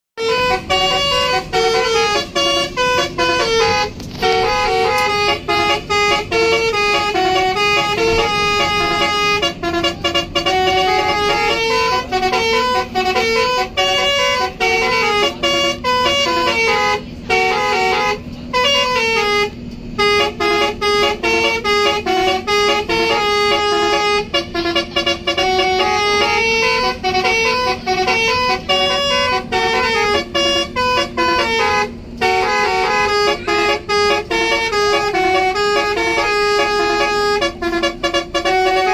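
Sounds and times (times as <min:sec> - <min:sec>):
bus air horns playing melody: 0:00.2 - 0:38.9.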